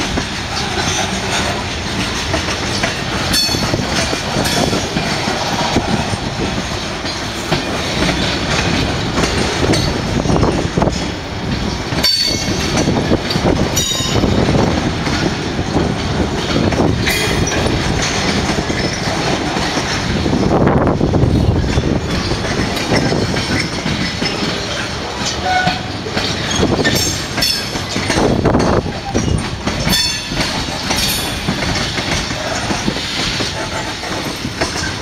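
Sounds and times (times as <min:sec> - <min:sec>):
train wheels rumbling over rails: 0:00.0 - 0:35.0.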